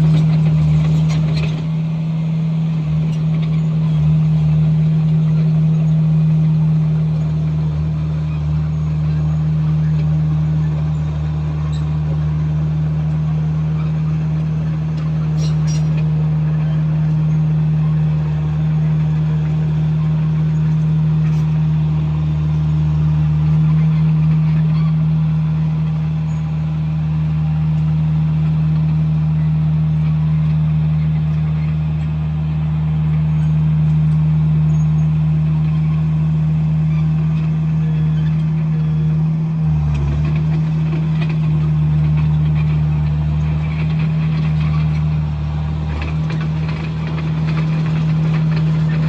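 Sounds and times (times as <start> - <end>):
bulldozer diesel engine droning: 0.0 - 49.0.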